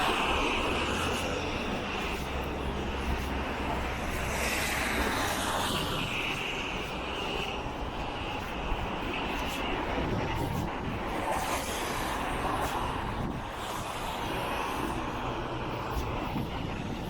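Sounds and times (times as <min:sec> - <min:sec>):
storm wind roaring on microphone: 0:00.0 - 0:17.0.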